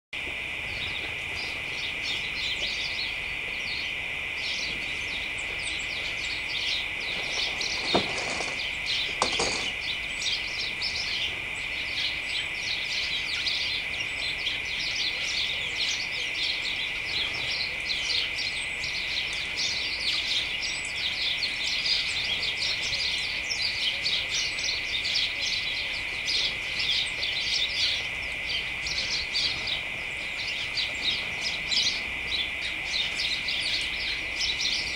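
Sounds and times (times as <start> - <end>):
sparrows chirping: 0.6 - 34.9.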